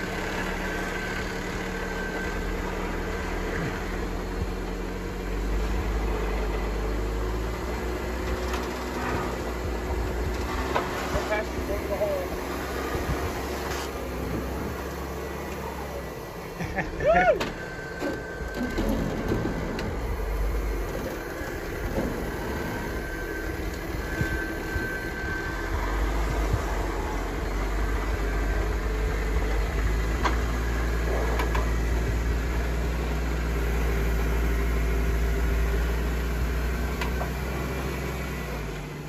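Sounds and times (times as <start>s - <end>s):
engine running at low revs: 0.0s - 39.0s.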